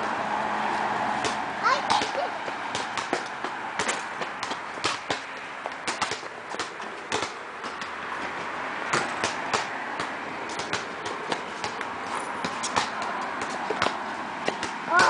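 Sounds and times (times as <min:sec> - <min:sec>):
basketball bouncing on concrete: 0:01.1 - 0:15.0.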